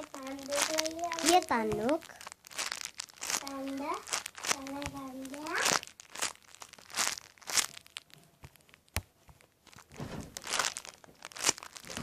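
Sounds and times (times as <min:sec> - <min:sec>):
squishy toy crinkling: 0:00.0 - 0:12.0.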